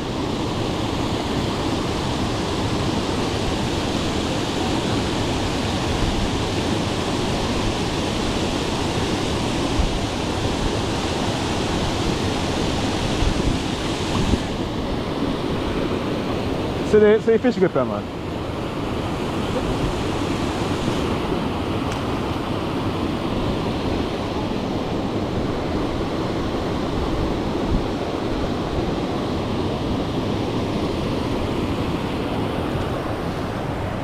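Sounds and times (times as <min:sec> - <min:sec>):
wind: 0:00.0 - 0:34.0.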